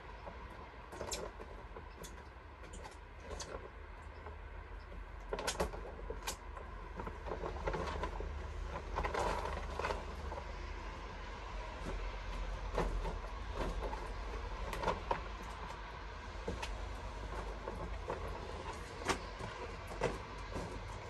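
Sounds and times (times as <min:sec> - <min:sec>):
rustling and scraping: 0:00.0 - 0:21.0.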